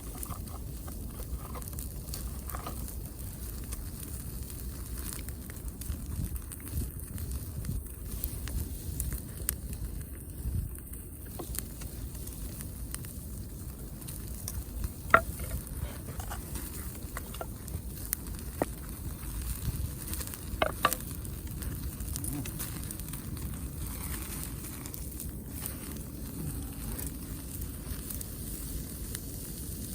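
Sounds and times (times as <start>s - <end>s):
campfire low rumble: 0.0s - 29.9s
fire crackles and pops: 0.0s - 29.9s.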